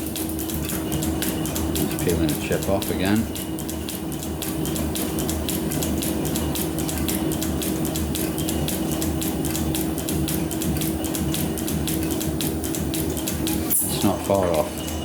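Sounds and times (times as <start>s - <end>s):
machine hum with held tone: 0.0s - 15.0s
rapid even ticking: 0.0s - 15.0s.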